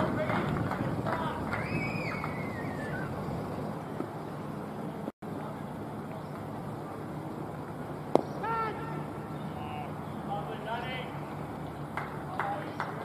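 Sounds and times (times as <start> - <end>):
outdoor hiss and rumble: 0.0 - 13.0.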